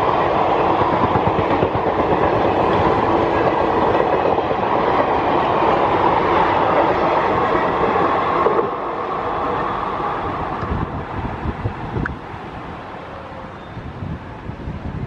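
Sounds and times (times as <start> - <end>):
train coaches rolling on rails: 0.0 - 15.0
wind buffeting microphone: 0.0 - 15.0.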